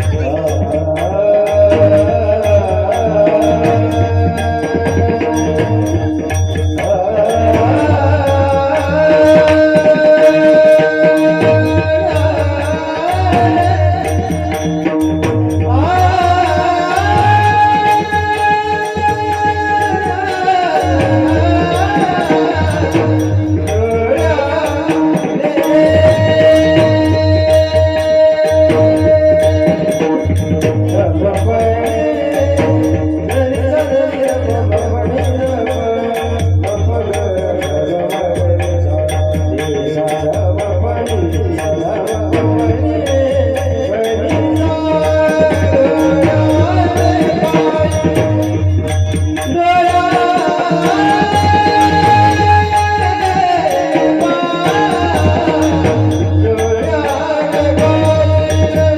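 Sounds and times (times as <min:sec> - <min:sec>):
drum beat: 0:00.0 - 0:58.9.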